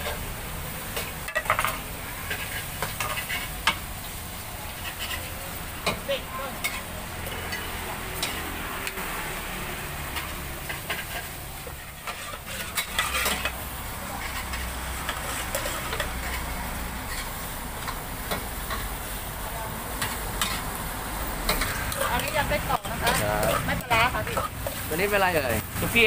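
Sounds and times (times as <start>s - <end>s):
utensils clinking against pots: 0.9s - 3.8s, 4.8s - 9.0s, 10.1s - 19.0s, 20.0s - 20.8s, 21.4s - 26.0s.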